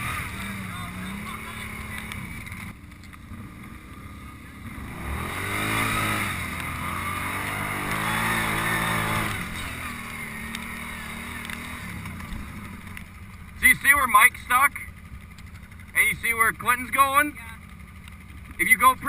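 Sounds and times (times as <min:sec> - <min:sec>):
quad engine running: 0:00.0 - 0:19.0.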